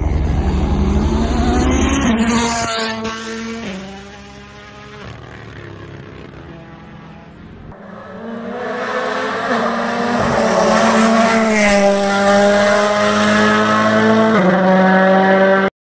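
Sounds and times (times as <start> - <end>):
rally car engine at full throttle: 0.0 - 15.7.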